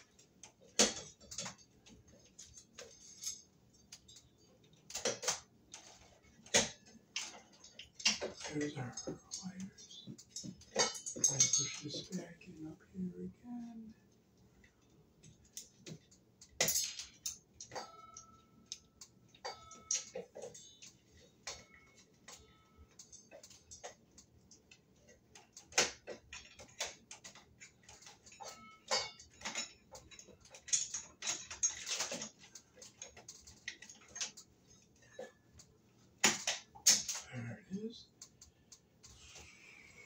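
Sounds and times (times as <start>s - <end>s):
hard parts clicking and knocking: 0.0s - 12.3s, 14.4s - 37.3s.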